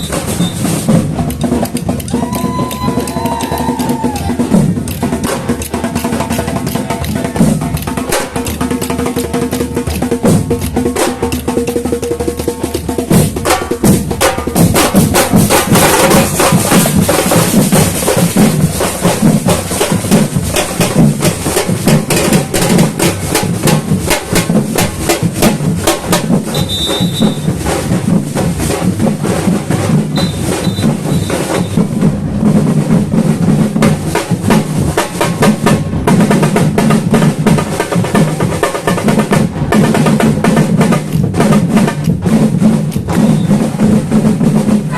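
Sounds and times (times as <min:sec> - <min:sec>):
samba drum ensemble: 0:00.0 - 0:44.9.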